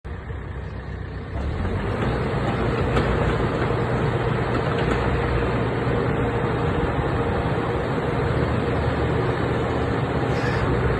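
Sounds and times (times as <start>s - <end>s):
excavator diesel engine running: 0.1s - 10.9s.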